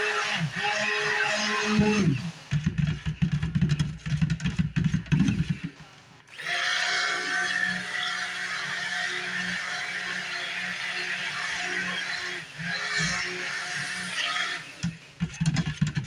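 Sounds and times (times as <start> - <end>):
stick blender running: 0.0 - 16.0.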